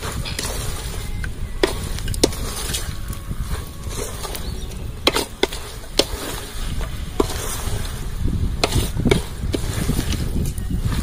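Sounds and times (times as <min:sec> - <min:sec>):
spatula scraping metal pot: 0:00.0 - 0:11.0
steady low rumble: 0:00.0 - 0:11.0.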